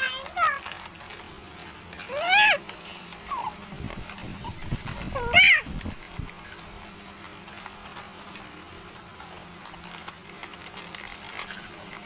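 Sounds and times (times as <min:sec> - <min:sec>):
crunching of snacks chewed: 0:00.0 - 0:12.0
plastic snack bags crinkling: 0:00.0 - 0:12.0.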